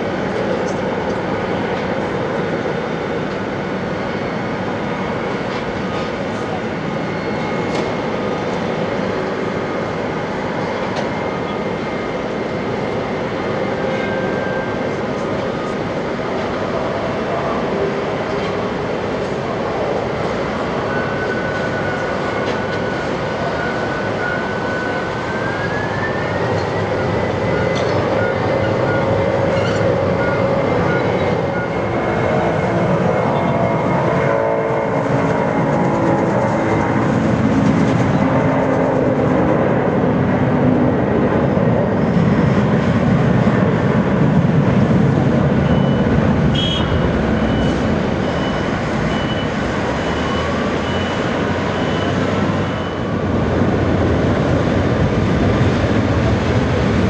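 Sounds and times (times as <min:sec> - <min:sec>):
jet engine roar: 0:00.0 - 0:57.0.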